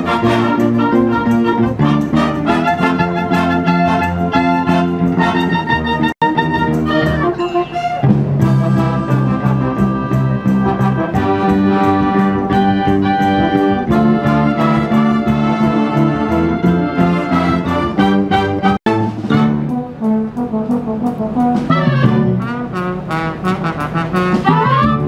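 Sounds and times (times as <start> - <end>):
trumpets and trombones: 0.0 - 25.0
wind band playing: 0.0 - 25.0.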